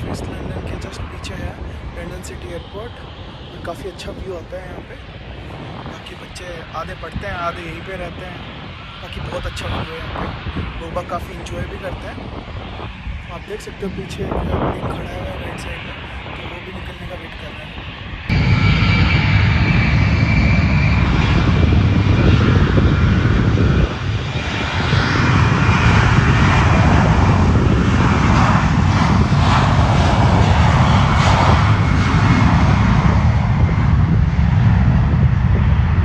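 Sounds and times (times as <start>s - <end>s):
jet engines at take-off power: 0.0s - 36.0s.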